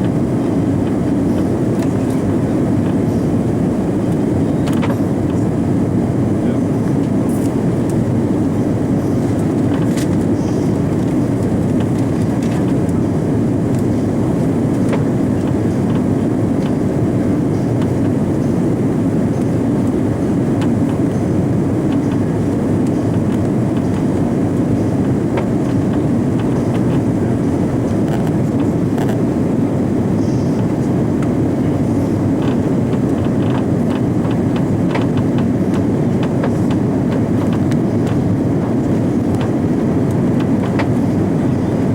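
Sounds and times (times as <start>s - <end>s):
airliner cabin jet engine noise: 0.0s - 41.9s.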